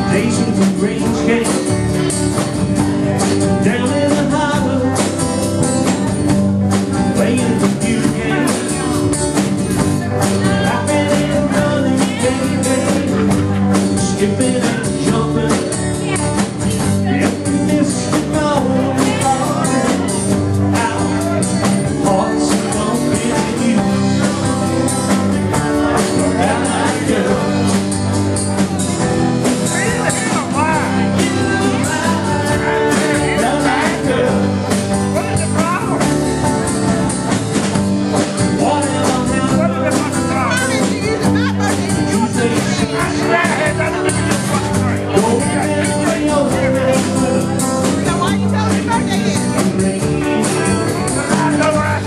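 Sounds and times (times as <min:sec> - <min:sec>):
bass guitar: 0:00.0 - 0:52.0
drum kit: 0:00.0 - 0:52.0
electric guitars: 0:00.0 - 0:52.0.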